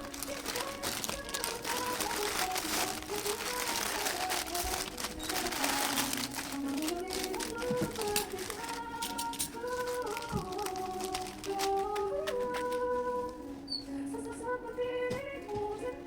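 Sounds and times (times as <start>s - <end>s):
plastic packaging crinkling: 0.0s - 13.4s
background music: 0.0s - 16.0s.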